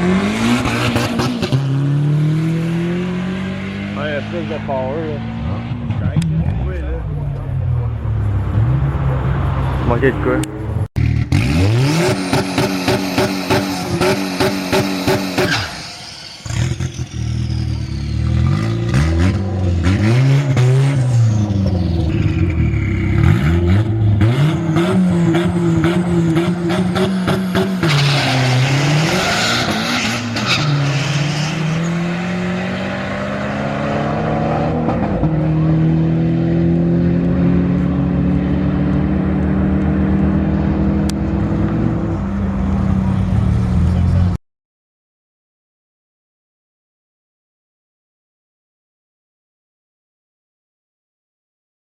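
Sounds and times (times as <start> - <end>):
car engine revving: 0.0 - 44.4.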